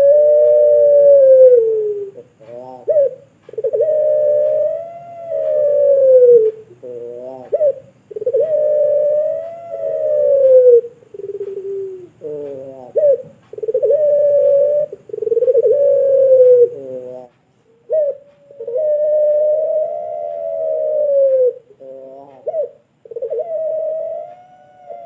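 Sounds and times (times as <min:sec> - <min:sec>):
dove cooing: 0:00.0 - 0:25.0.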